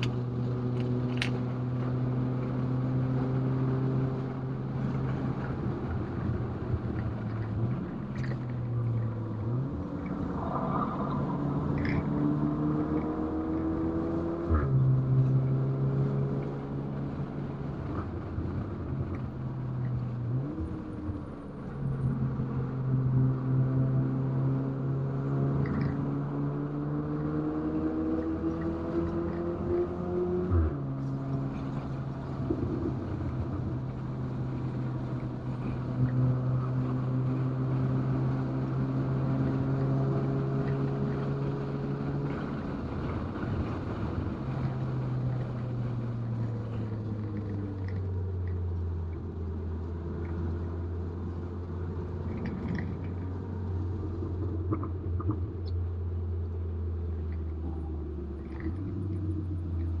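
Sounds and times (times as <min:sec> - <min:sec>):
car engine running: 0:00.0 - 1:00.0.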